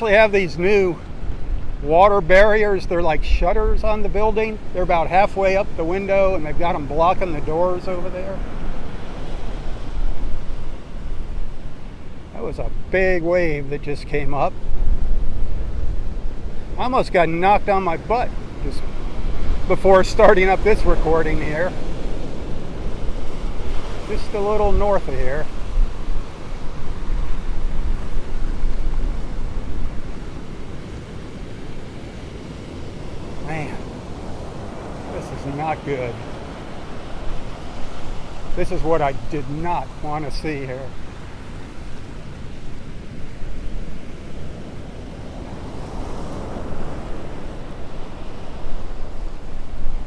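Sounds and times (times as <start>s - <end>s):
gusty wind on microphone: 0.0s - 50.0s
surf washing up beach: 0.0s - 50.0s.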